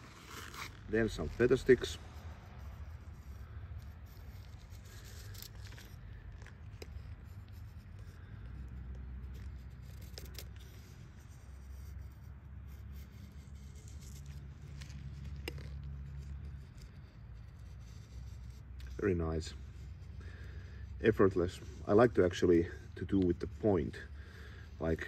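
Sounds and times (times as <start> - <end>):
knife scraping wood: 0.0 - 25.0.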